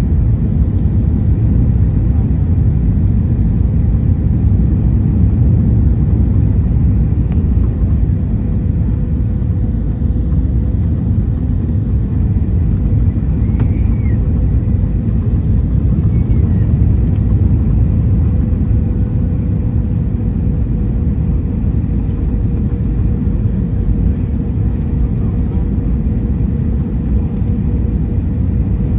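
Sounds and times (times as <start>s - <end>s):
airliner cabin engine rumble: 0.0s - 28.9s.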